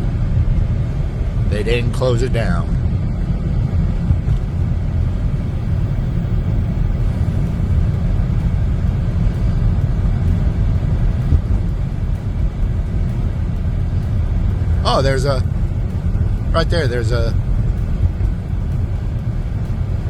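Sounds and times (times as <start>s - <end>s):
car driving on highway: 0.0s - 20.0s.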